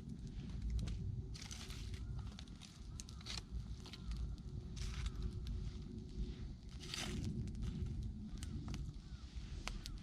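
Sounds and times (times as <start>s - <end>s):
dry rustling and crunching: 0.0s - 5.9s, 6.6s - 8.9s.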